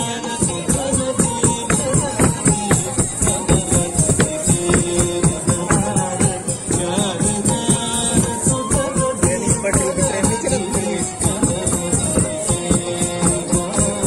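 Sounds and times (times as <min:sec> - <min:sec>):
fast percussion beat: 0:00.0 - 0:14.0
held melodic notes: 0:00.0 - 0:14.0
high jingling: 0:00.0 - 0:14.0.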